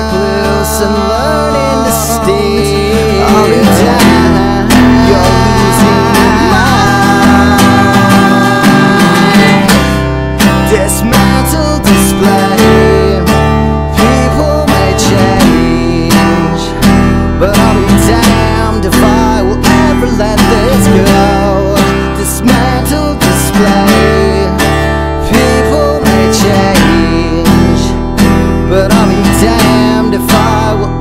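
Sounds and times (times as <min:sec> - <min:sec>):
low bass notes: 0:00.0 - 0:31.0
strummed guitar: 0:00.0 - 0:31.0.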